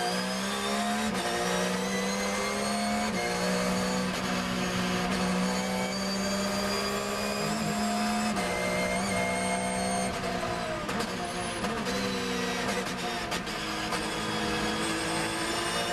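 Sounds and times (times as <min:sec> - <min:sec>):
racing engine at full throttle: 0:00.0 - 0:15.9.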